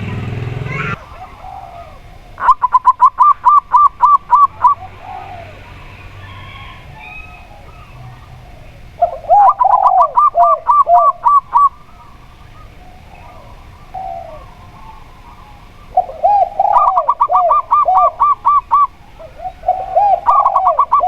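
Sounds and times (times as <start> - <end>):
dove cooing: 0.0 - 21.0
lower-pitched dove coos: 0.0 - 21.0.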